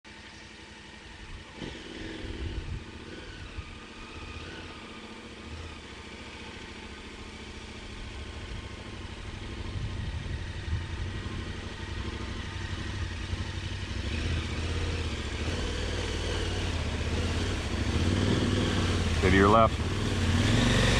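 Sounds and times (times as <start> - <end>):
motorcycle engine approaching: 0.1 - 20.9.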